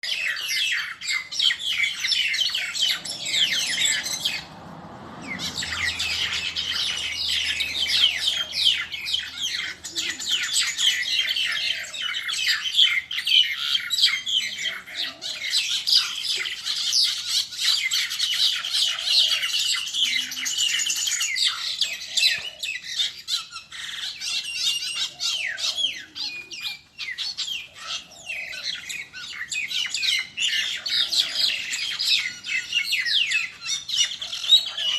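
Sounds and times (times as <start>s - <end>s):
small birds chirping and squawking: 0.0s - 34.9s.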